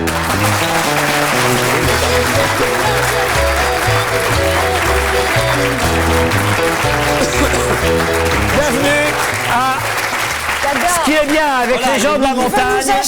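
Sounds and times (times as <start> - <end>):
upbeat music with bass and guitar: 0.0 - 10.7
audience applauding: 0.0 - 13.0.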